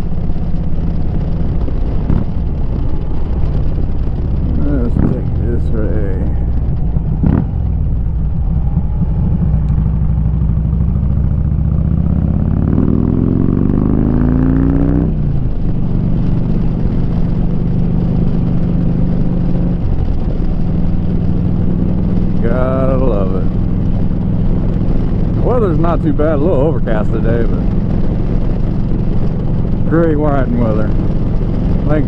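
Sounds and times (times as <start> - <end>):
motorcycle engine riding: 0.0 - 32.0.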